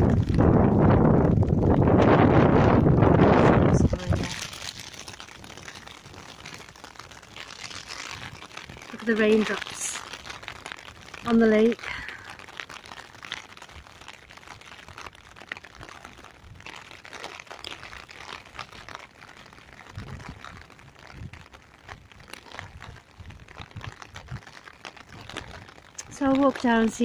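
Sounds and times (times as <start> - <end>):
rain pattering on umbrella: 0.0 - 27.0.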